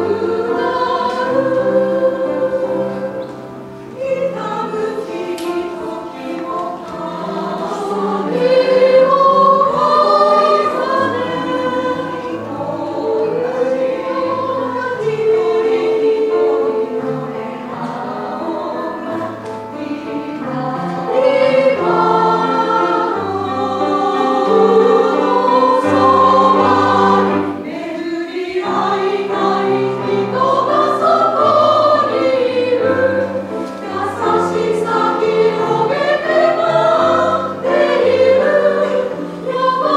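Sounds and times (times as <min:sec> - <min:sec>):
piano accompaniment: 0:00.0 - 0:39.9
women's choir singing: 0:00.0 - 0:39.9.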